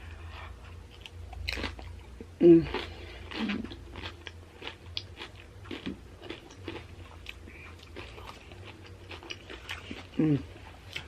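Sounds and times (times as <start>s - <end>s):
low hum: 0.0s - 11.0s
chewing crunchy chips: 0.2s - 11.0s.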